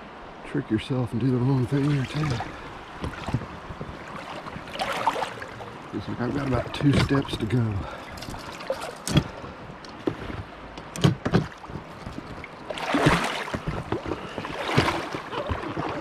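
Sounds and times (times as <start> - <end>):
water sloshing around legs: 1.6 - 16.0.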